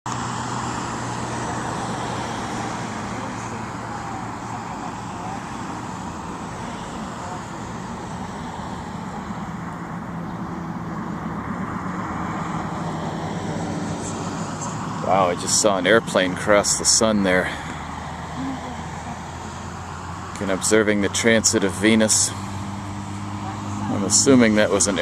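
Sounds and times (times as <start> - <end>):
road traffic rushing: 0.0 - 25.0.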